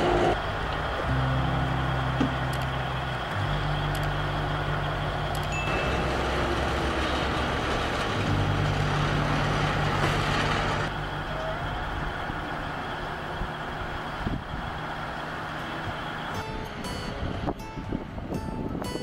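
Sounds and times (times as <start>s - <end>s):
heavy machinery engine: 0.0s - 18.8s.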